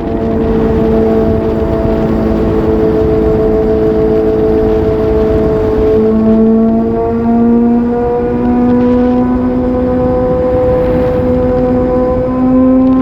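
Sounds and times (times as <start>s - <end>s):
motorcycle engine running: 0.0s - 13.0s
wind rush: 0.0s - 13.0s.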